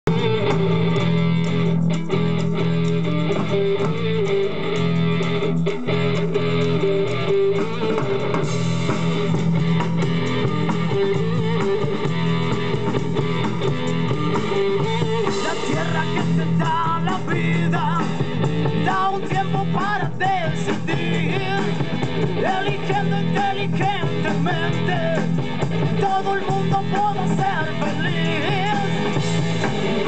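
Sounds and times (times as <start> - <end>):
electric guitar: 0.0 - 30.0.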